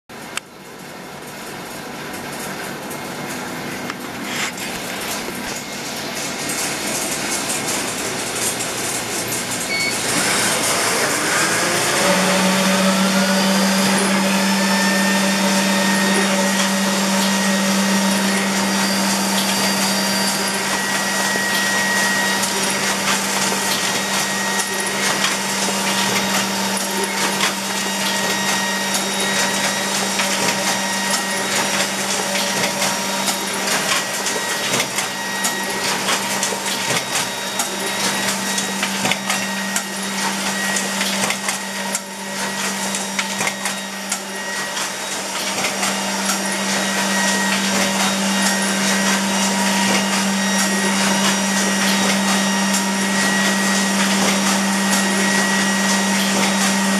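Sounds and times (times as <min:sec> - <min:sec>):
motor and blower hum: 0:00.2 - 0:56.9.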